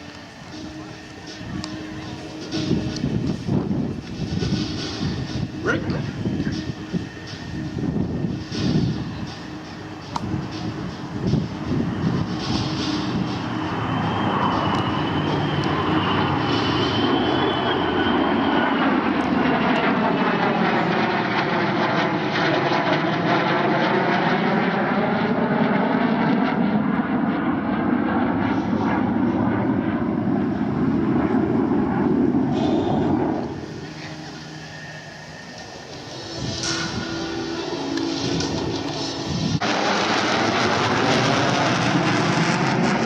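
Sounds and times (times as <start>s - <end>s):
thin high whine: 0.0s - 21.6s, 28.4s - 41.4s
aircraft engine flying low: 0.0s - 43.0s.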